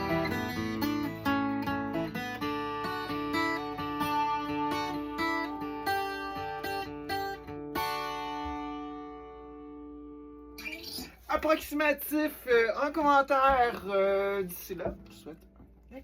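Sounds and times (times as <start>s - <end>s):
twelve-string acoustic guitar: 0.0s - 16.0s.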